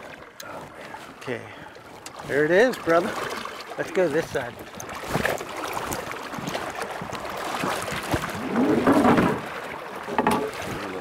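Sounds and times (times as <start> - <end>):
river water splashing and sloshing: 0.0 - 11.0.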